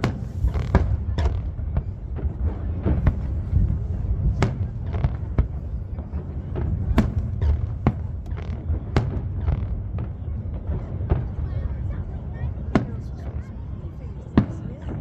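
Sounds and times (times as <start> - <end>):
fireworks booms and cracks: 0.0 - 15.0.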